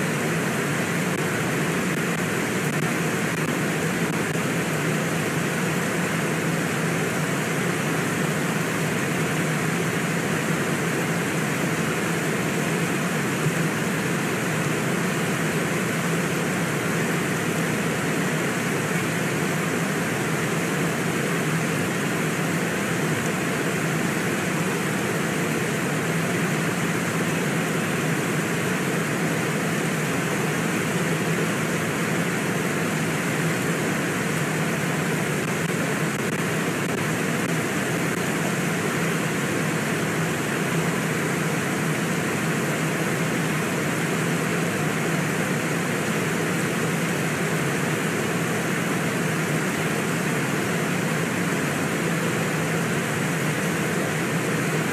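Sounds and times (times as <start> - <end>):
fast-flowing river water: 0.0 - 54.9.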